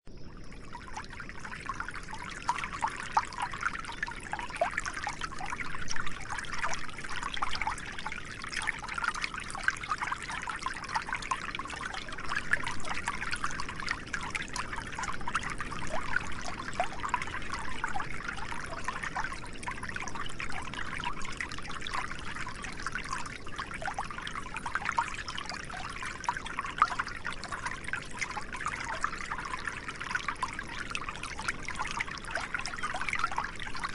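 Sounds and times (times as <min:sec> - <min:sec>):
small stream babbling: 0:00.1 - 0:33.9.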